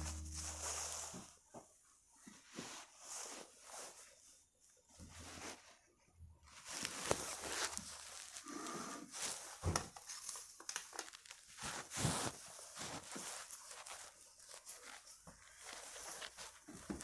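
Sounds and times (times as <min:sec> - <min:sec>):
rustling and scuffing: 0:00.0 - 0:17.0.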